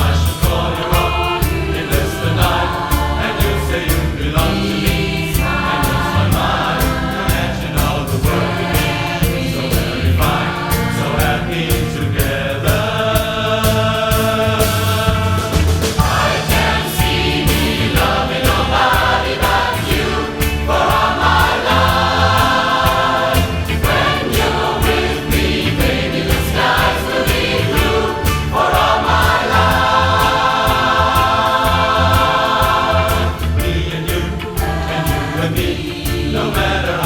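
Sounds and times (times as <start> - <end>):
bass line: 0.0 - 37.0
choir singing in harmony: 0.0 - 37.0
steady drum beat: 0.0 - 37.0.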